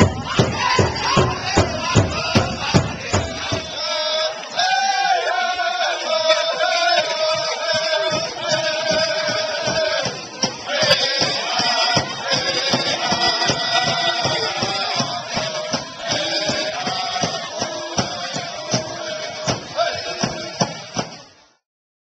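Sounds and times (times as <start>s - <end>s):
steady beat on large drum: 0.0s - 3.8s, 7.0s - 21.3s
singers chanting together: 0.0s - 21.6s.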